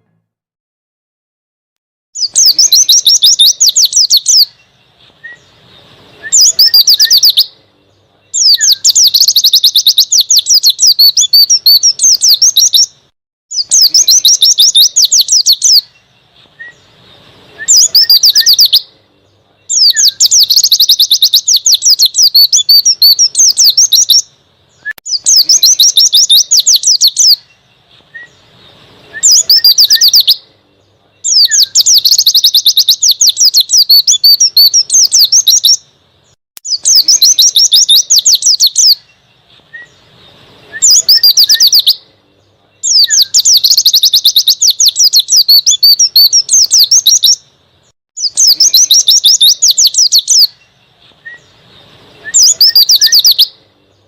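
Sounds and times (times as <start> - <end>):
bird singing high twittering song: 2.2 - 54.0.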